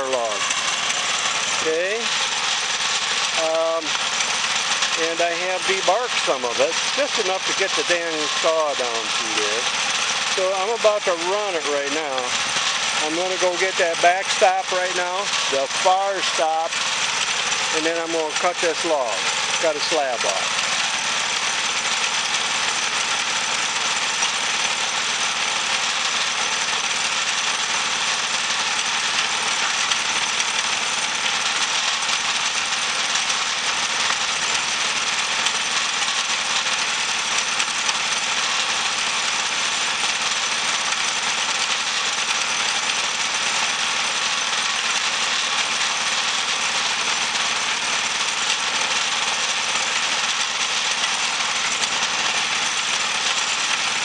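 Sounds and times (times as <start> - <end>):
band sawmill blade sawing log: 0.0 - 54.0.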